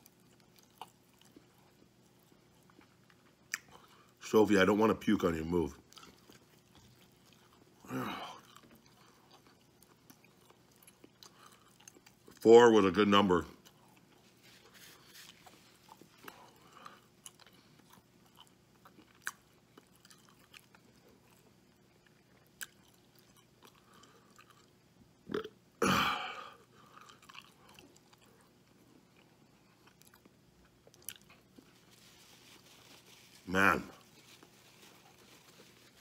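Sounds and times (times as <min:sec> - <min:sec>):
chewing food: 0:00.0 - 0:04.2, 0:05.2 - 0:12.4, 0:13.4 - 0:25.5, 0:26.7 - 0:36.0.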